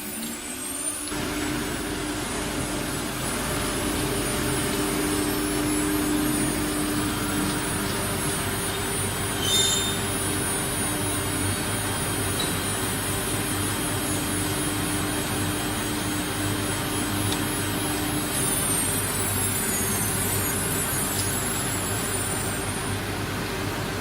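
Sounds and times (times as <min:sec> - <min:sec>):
machine noise: 0:00.0 - 0:24.0
router spindle high whine: 0:00.0 - 0:24.0.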